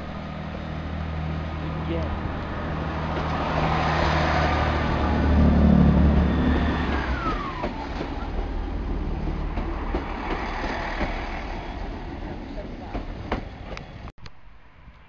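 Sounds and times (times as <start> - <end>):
train carriages clicking and rushing: 1.3 - 14.1.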